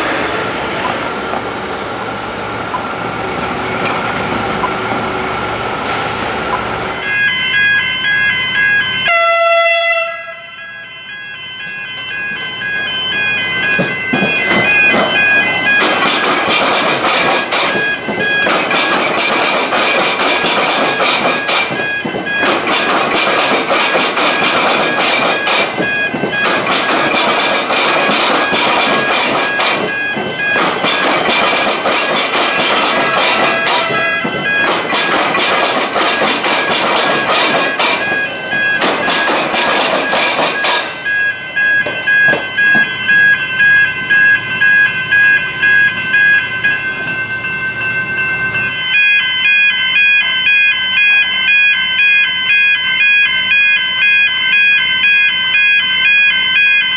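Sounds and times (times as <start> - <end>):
train passing: 0.0 - 50.4
level crossing warning bells: 0.0 - 56.9.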